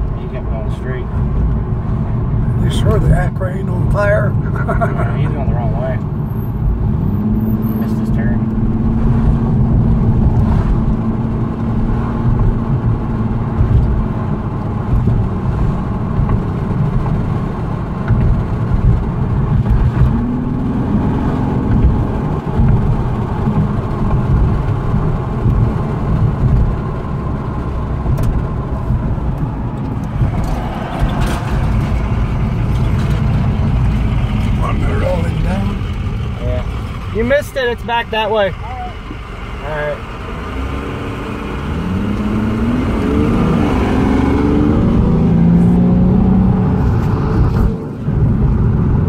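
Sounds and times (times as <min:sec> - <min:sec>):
car engine rumble from inside: 0:00.0 - 0:49.0
road noise: 0:00.0 - 0:49.0.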